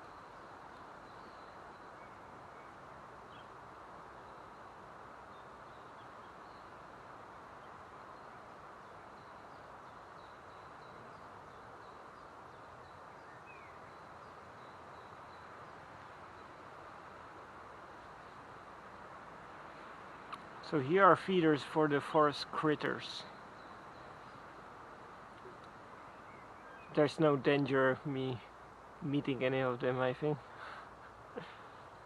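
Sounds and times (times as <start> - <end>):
small birds chirping: 0.0 - 32.0
steady hiss: 0.0 - 32.0.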